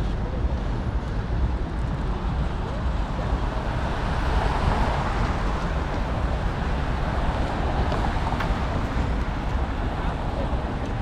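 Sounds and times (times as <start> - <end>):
road traffic noise: 0.0 - 11.0
wind rumble on microphone: 0.0 - 11.0.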